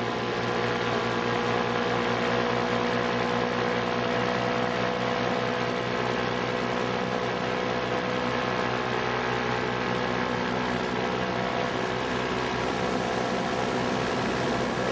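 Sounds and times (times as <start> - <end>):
paramotor engine droning: 0.0 - 14.9.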